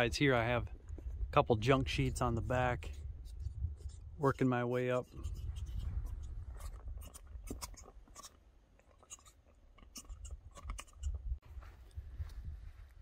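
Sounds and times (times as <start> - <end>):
wind rumbling on microphone: 0.0 - 7.9, 10.1 - 13.0.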